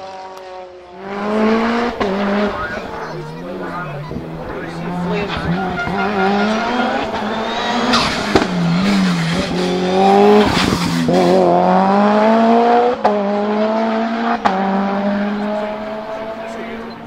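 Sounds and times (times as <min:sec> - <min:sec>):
race engine revving at full throttle: 0:00.0 - 0:17.0.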